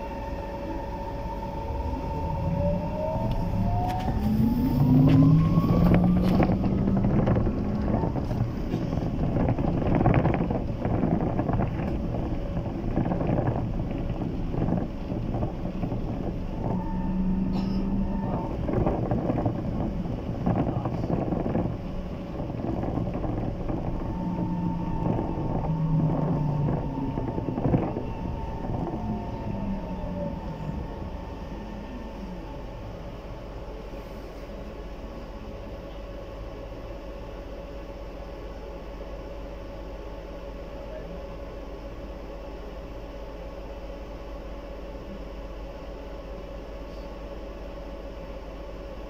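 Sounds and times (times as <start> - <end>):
electric drive whine: 0.0 - 48.8
road noise rumble: 0.0 - 49.0.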